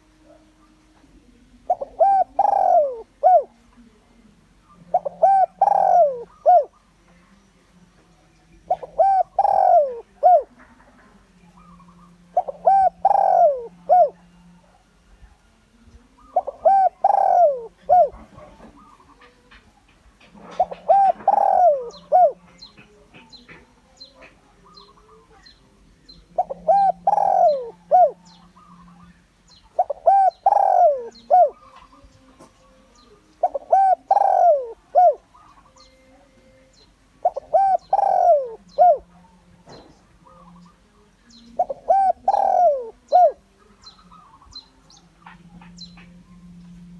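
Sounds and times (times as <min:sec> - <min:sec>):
dove cooing: 0:00.0 - 0:07.2, 0:08.6 - 0:46.9
small birds chirping: 0:00.0 - 0:46.9.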